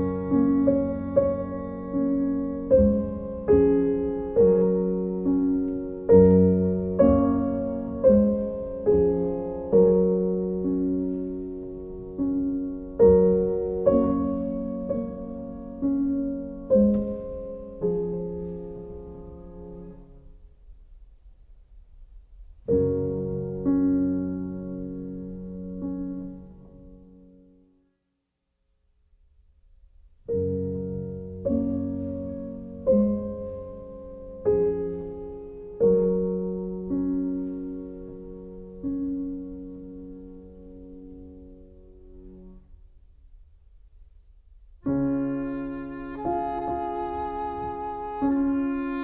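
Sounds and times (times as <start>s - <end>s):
slow solo piano: 0.0s - 28.1s, 29.3s - 49.0s.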